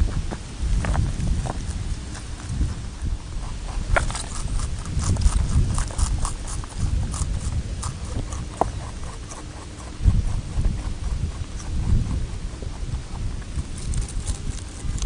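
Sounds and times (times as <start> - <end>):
rabbit chewing crunchy food: 0.0 - 15.0.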